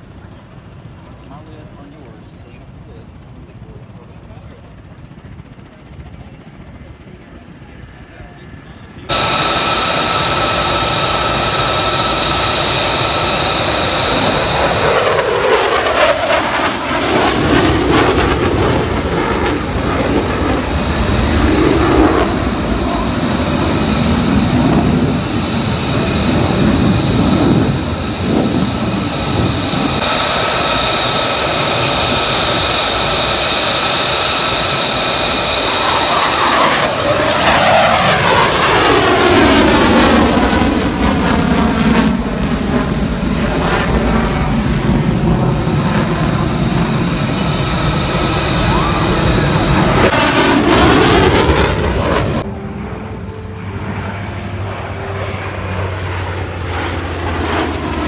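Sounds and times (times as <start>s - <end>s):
fighter jets flying past: 0.0s - 58.0s.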